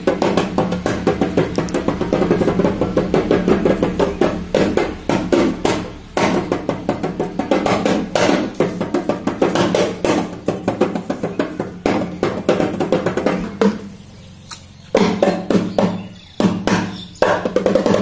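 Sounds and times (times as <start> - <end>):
background music with percussive beat: 0.0 - 14.1, 14.7 - 18.0.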